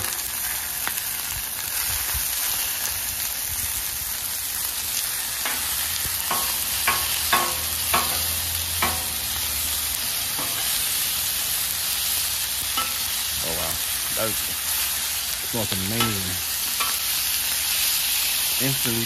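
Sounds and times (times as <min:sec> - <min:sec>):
butter sizzling on griddle: 0:00.0 - 0:19.0.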